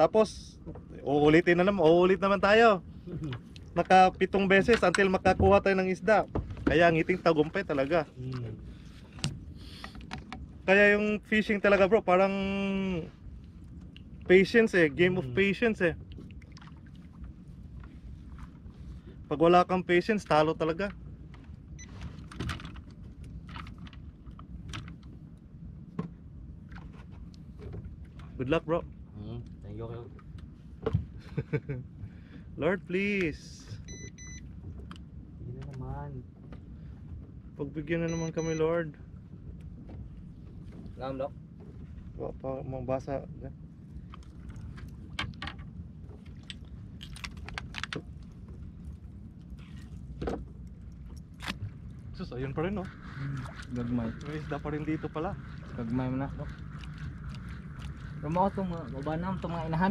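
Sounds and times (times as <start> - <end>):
rumble of wind and water: 0.0 - 59.9.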